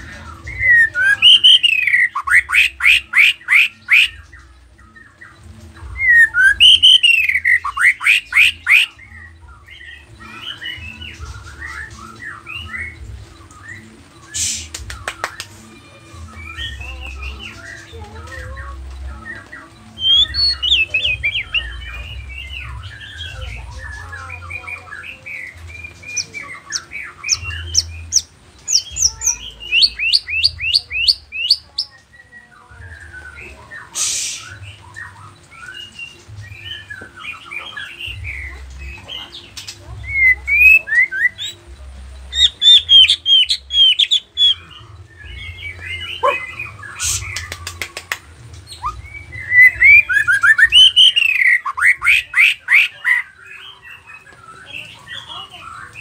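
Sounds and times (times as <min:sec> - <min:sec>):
bird singing whistles and chatter: 0:00.0 - 0:56.0.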